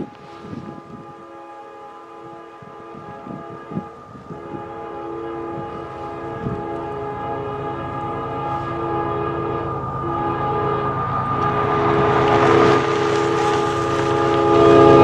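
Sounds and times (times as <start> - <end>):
locomotive air horn blast: 0.0 - 15.0
train rumbling: 0.0 - 15.0.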